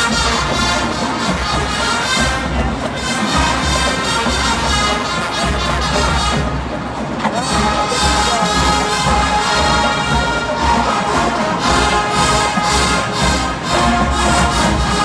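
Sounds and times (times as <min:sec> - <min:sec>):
marching band brass: 0:00.0 - 0:15.0
steady drum beat: 0:00.0 - 0:15.0.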